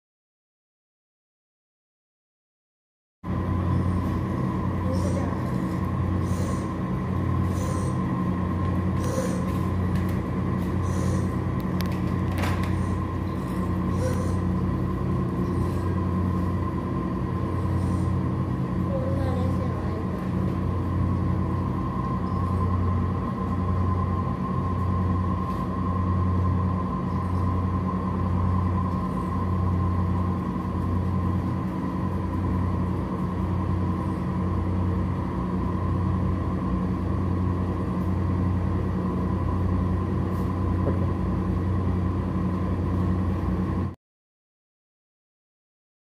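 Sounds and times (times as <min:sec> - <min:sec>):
machine hum with throb: 0:03.2 - 0:44.0
thin steady whine: 0:03.2 - 0:44.0.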